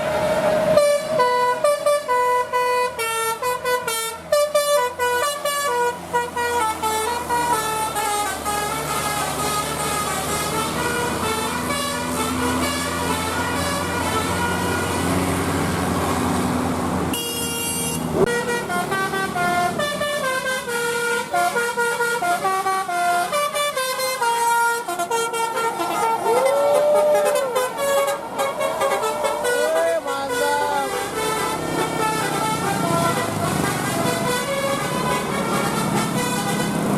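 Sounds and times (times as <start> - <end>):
bus engine running: 0.0 - 36.9
musical air horn tune: 0.7 - 15.2, 17.1 - 36.9.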